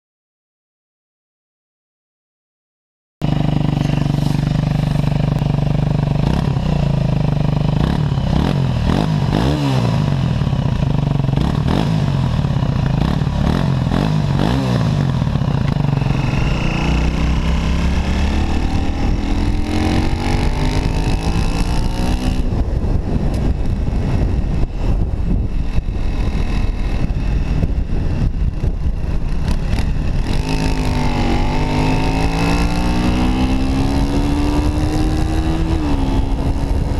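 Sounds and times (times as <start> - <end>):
motorcycle engine revving: 3.2 - 36.9.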